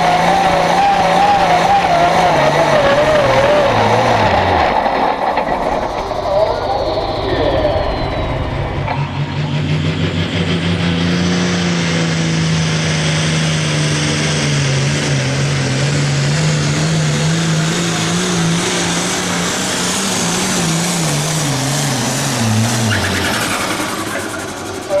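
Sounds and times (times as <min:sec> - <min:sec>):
diesel tractor engine at full throttle: 0:00.0 - 0:25.0.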